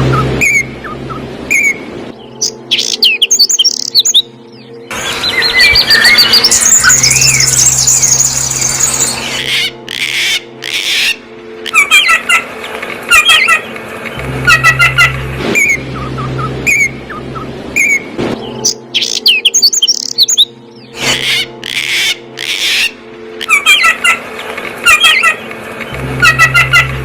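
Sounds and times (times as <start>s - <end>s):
songbirds chirping and singing: 0.0s - 27.0s
steady low hum: 0.0s - 27.0s.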